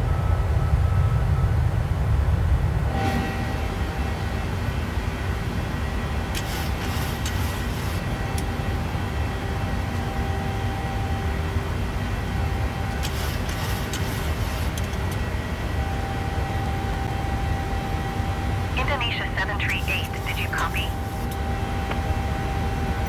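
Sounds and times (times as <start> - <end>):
airplane cabin engine rumble: 0.0 - 23.0
faint steady tones: 0.0 - 23.0.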